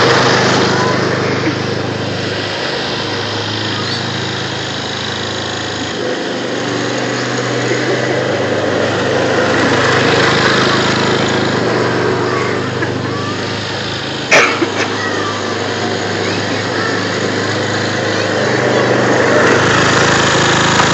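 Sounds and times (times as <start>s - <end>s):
lawn tractor engine running: 0.0s - 20.9s.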